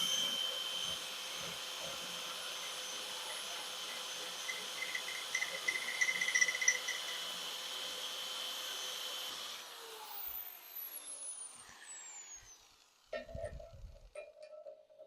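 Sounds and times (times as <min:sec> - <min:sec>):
electric drill whine: 0:00.0 - 0:13.2.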